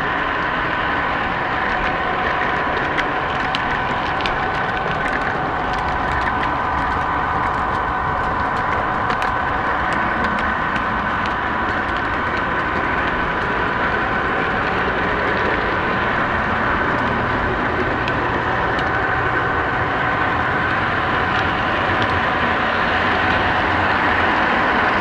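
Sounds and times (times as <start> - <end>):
model train whine and rumble: 0.0 - 25.0.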